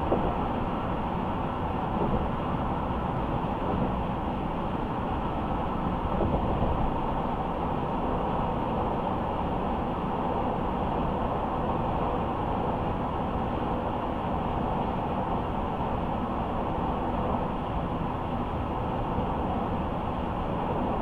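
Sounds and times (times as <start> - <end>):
car tyre and engine rumble: 0.0 - 21.0.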